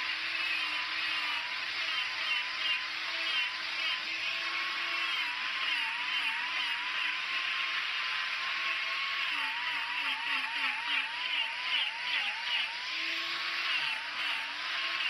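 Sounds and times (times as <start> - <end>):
angle grinder grinding wood: 0.0 - 15.0.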